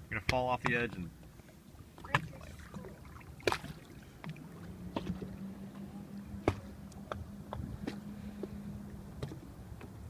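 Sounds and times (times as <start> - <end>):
wind and water noise: 0.0 - 10.0.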